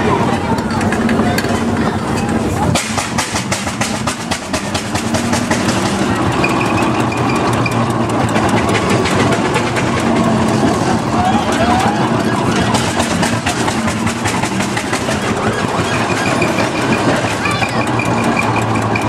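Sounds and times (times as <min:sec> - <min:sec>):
clanks and knocks of moving parts: 0:00.0 - 0:19.0
steam traction engine running: 0:00.0 - 0:19.0.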